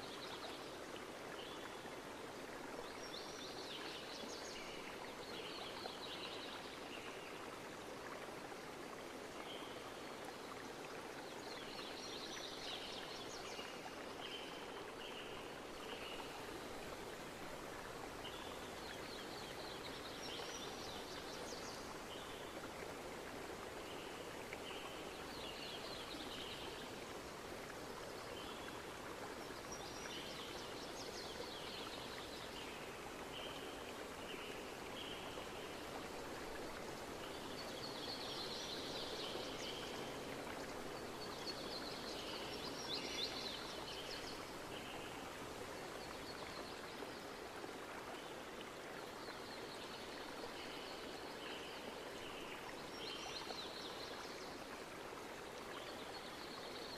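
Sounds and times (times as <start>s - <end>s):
flowing stream: 0.0s - 56.9s.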